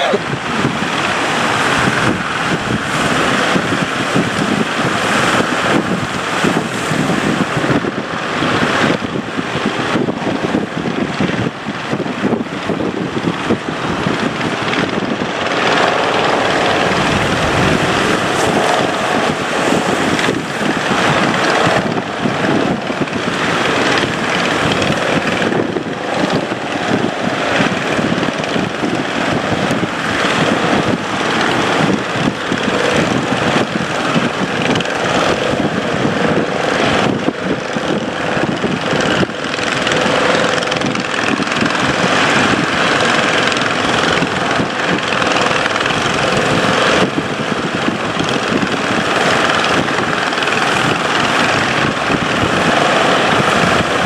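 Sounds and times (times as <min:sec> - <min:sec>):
boat engine running: 0:00.0 - 0:54.0
faint steady drone: 0:00.0 - 0:54.0
wind noise on microphone: 0:00.0 - 0:54.0.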